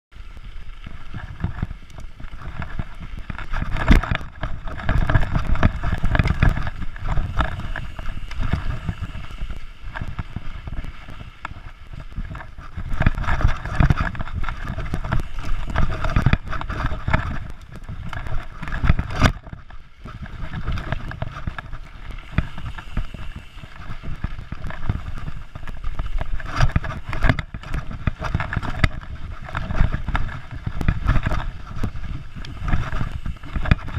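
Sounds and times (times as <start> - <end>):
bike frame and chain rattling: 0.2 - 33.9.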